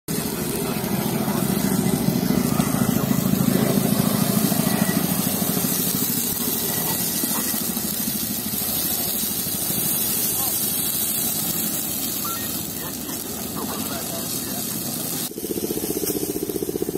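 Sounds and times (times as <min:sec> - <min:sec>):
engine running with even throb: 0:00.1 - 0:16.9.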